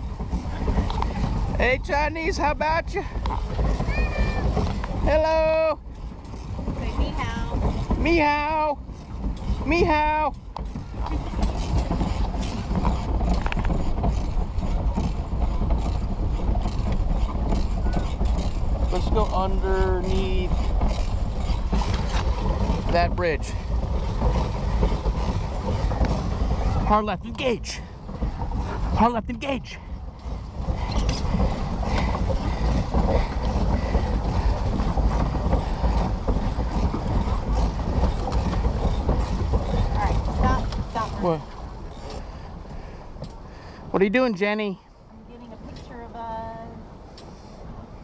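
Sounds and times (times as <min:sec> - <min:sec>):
continuous low rumble: 0:00.0 - 0:48.0
paddle wheel mechanical clatter: 0:00.0 - 0:48.0.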